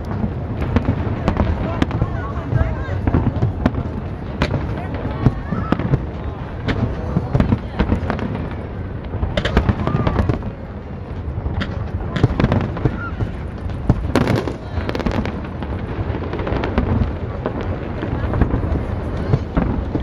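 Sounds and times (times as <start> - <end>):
firework bangs and crackling: 0.0 - 20.0.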